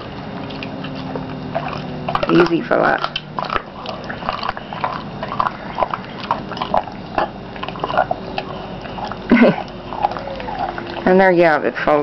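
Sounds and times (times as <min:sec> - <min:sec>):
dog chewing raw meat: 0:00.0 - 0:12.0
bone crunching clicks: 0:00.4 - 0:11.1.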